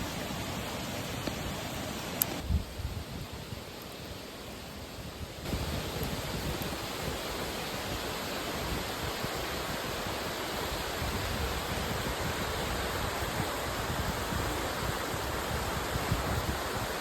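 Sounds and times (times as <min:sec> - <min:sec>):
water rushing: 0:00.0 - 0:02.4, 0:05.5 - 0:17.0.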